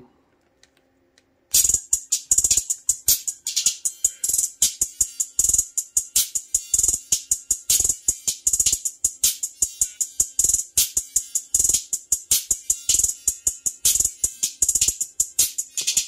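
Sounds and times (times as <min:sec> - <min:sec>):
music through a tweeter: 0:01.5 - 0:16.0.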